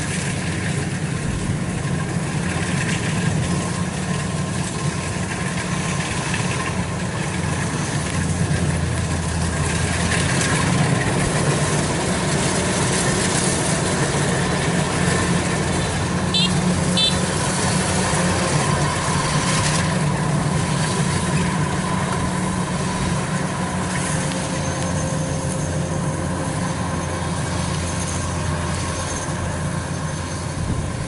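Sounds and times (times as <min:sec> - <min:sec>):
combine harvester engine drone: 0:00.0 - 0:31.0.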